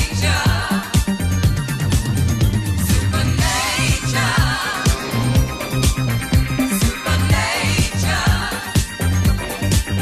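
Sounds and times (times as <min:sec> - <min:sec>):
disco music: 0:00.0 - 0:10.0.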